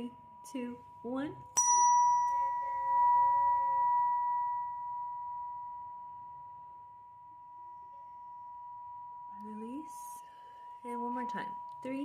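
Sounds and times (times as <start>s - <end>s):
tuning fork ringing: 0.0s - 12.0s.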